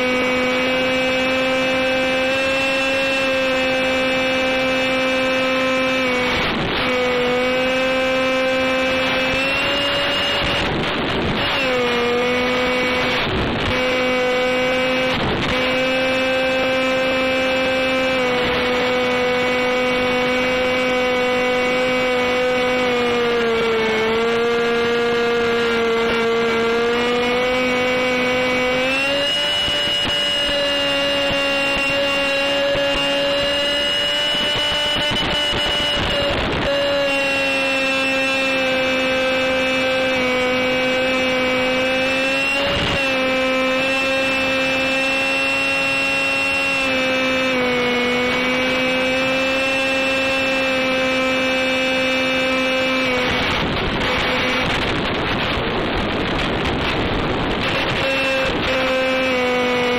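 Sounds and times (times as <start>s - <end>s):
electric motor and propeller whining: 0.0s - 59.9s.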